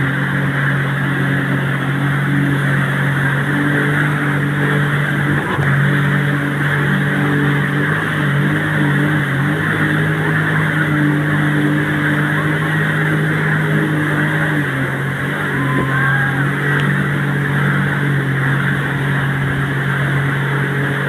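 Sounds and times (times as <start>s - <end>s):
motorboat engine humming: 0.0s - 21.0s
rushing water: 0.0s - 21.0s.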